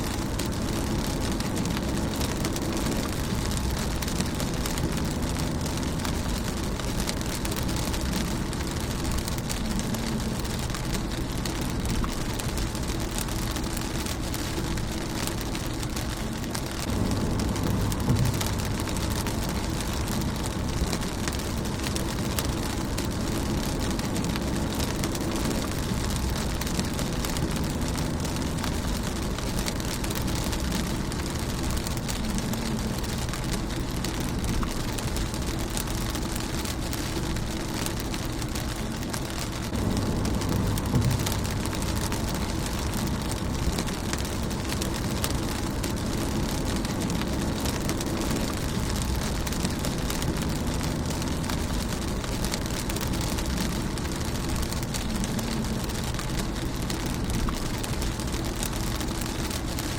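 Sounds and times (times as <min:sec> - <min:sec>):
rain on a car windshield: 0:00.0 - 0:59.9.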